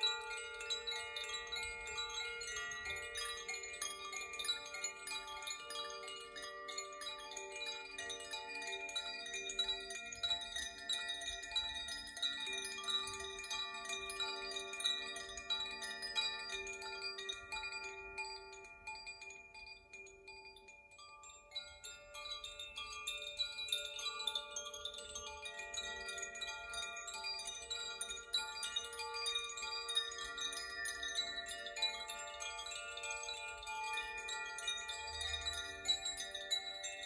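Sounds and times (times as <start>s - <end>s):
chimes tinkling: 0.0s - 37.0s.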